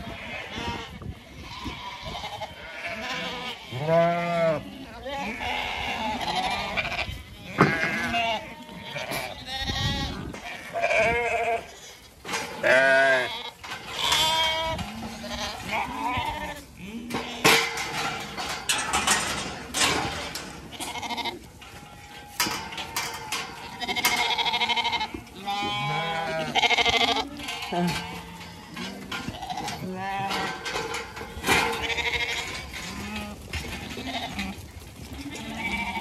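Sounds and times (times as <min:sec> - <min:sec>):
sheep and lambs bleating: 0:00.0 - 0:36.0.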